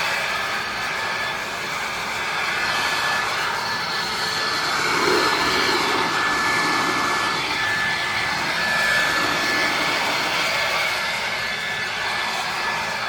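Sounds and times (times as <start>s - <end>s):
thin high whine: 0.0s - 13.0s.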